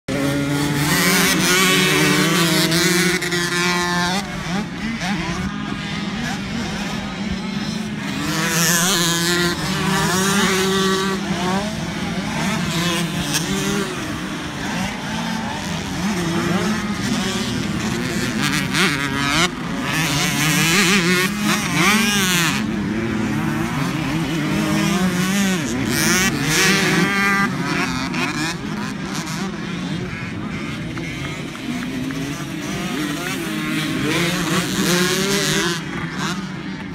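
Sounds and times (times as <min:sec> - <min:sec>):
dirt bike engines revving: 0:00.0 - 0:36.9.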